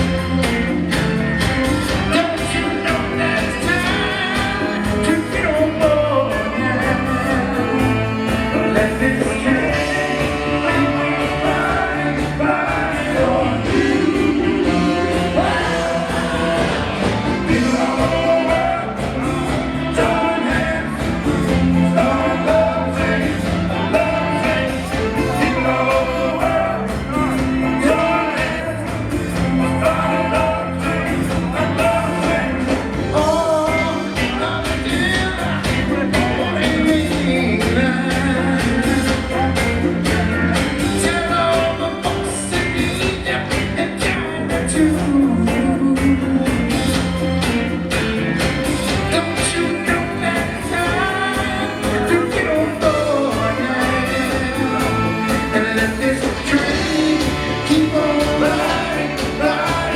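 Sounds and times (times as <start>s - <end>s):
live disco-soul band playing: 0.0s - 59.9s
lead and backing vocals singing: 1.8s - 59.9s.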